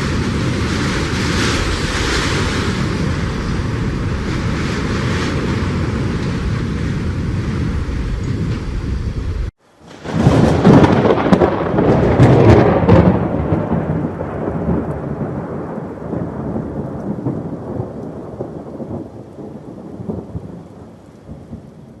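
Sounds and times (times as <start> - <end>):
rain: 0.0 - 22.0
thunderclap with sharp cracks: 0.0 - 22.0.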